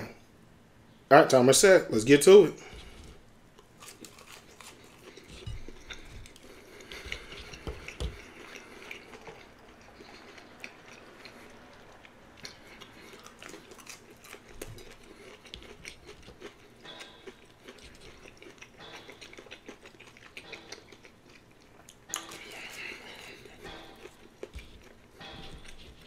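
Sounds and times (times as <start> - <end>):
chewing crispy fried chicken: 2.7 - 26.0.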